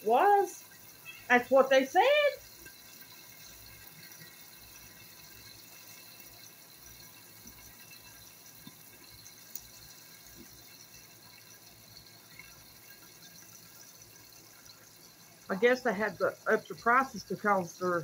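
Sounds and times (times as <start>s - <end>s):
bacon sizzling faintly: 0.0s - 18.0s.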